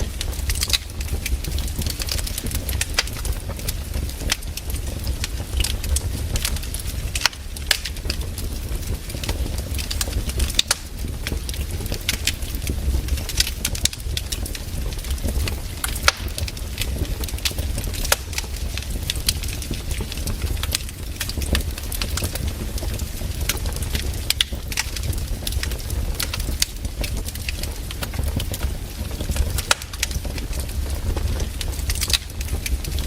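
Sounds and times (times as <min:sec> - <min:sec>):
fire crackling and popping: 0:00.0 - 0:33.0
low fire rumble: 0:00.0 - 0:33.0.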